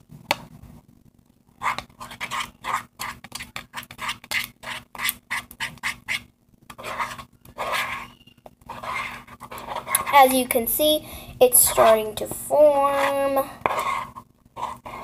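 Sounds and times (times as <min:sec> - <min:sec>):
spoon stirring wet slime: 0:01.6 - 0:10.8, 0:11.4 - 0:15.0.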